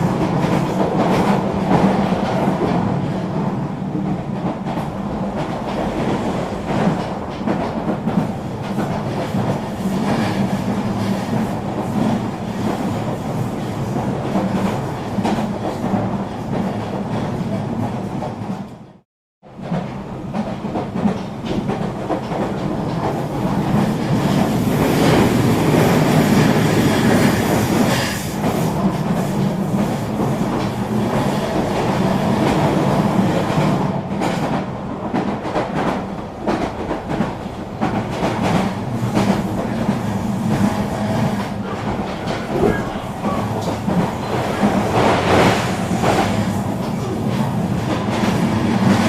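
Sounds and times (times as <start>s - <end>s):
train rolling rumble: 0.0s - 49.0s.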